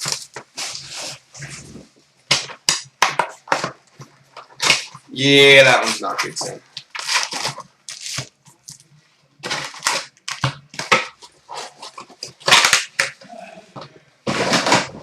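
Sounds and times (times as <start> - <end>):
card pack wrappers crinkling: 0.0 - 1.8, 2.4 - 13.2.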